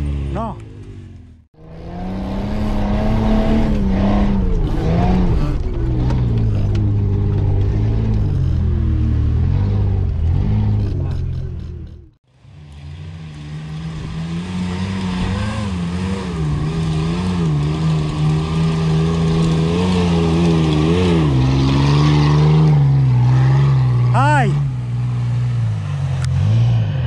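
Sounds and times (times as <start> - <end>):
off-road vehicle engines revving: 0.0 - 27.0.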